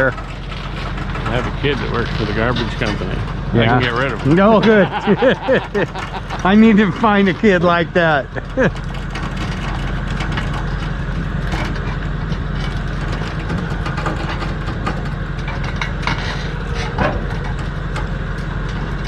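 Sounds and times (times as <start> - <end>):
engine idling: 0.0 - 19.0
short knocks and clanks: 0.0 - 19.0.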